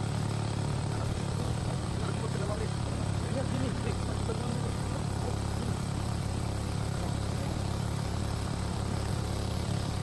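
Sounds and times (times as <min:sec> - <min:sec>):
small engine water pump running: 0:00.0 - 0:10.0.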